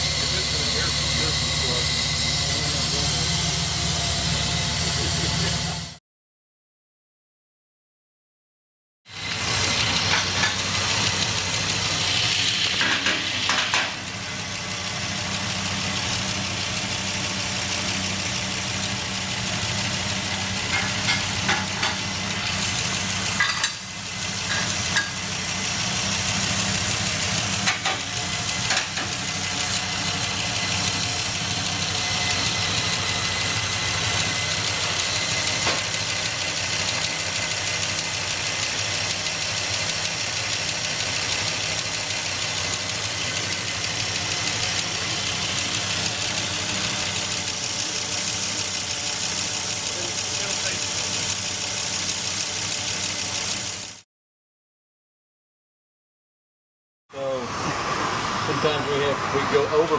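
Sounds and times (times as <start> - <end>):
truck engine idling: 0.0 - 5.9, 9.2 - 12.2, 13.9 - 54.0.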